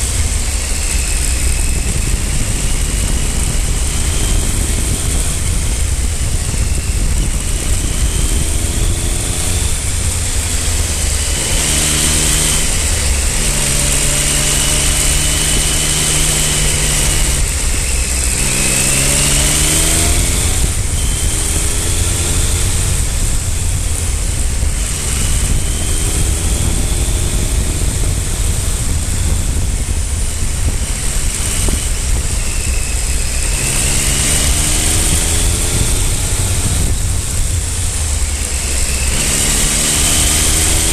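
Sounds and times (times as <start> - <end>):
motorcycle engine shifting gears: 0.0 - 40.9
wind and road noise: 0.0 - 40.9.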